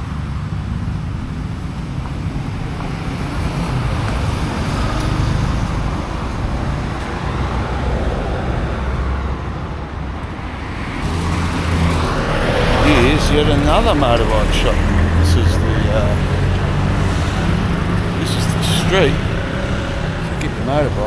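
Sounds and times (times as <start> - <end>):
low engine rumble: 0.0 - 21.0
road noise of passing vehicles: 0.0 - 21.0.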